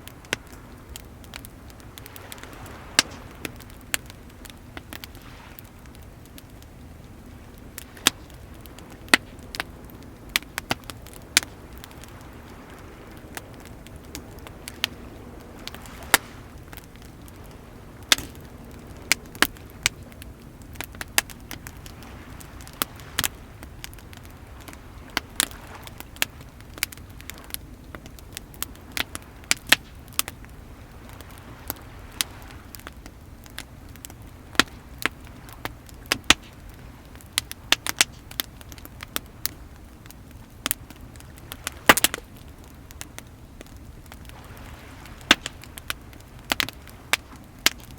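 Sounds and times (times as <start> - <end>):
bonfire crackling and popping: 0.0 - 47.9
waves rushing: 0.0 - 47.9.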